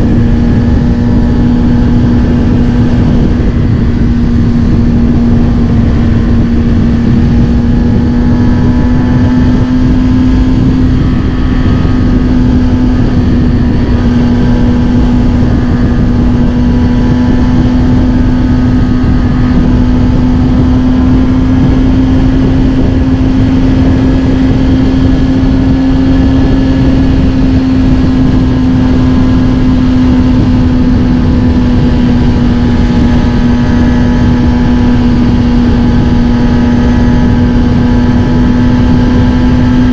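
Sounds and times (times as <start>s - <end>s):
low rushing noise: 0.0s - 39.9s
motorcycle engine cruising: 0.0s - 39.9s.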